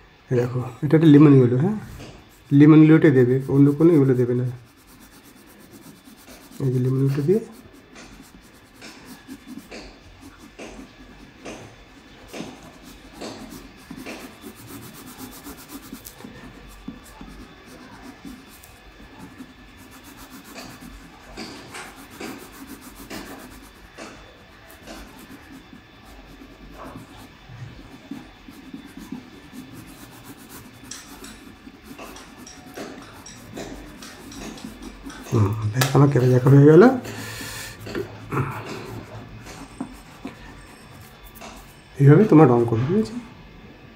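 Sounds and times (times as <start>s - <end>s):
crayon scratching on paper: 2.0s - 42.4s.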